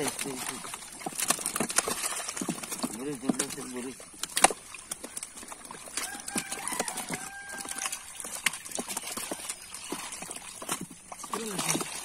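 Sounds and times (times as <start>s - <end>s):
fish flapping and slapping: 0.0s - 12.0s
water splashing: 0.0s - 12.0s.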